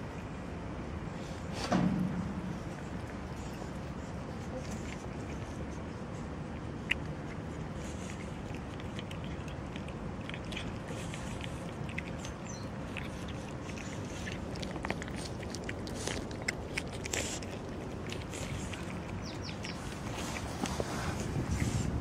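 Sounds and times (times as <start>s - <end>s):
low background rumble: 0.0s - 22.0s
cats chewing wet food: 2.5s - 22.0s.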